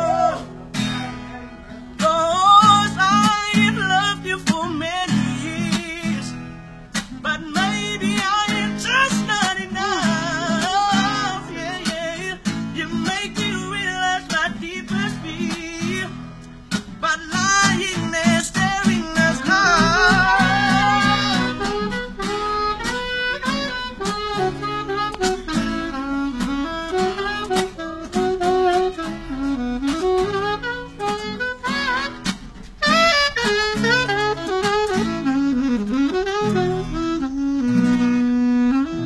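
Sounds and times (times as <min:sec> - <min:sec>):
acoustic guitar chords: 0:00.0 - 0:39.0
saxophone melody: 0:00.0 - 0:39.0.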